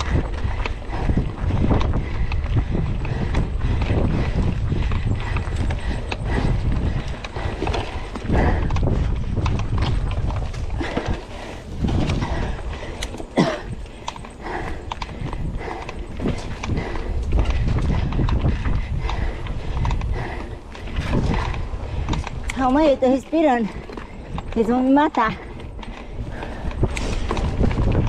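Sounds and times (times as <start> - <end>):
mountain bike rattling and knocking: 0.0 - 28.0
steady low rumble: 0.0 - 28.0.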